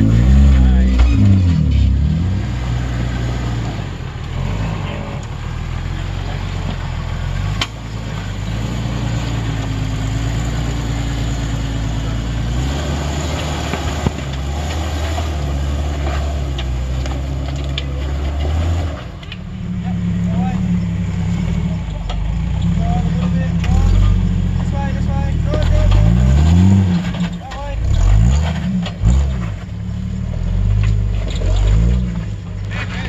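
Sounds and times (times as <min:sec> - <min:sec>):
engine running at low revs: 0:00.0 - 0:33.0.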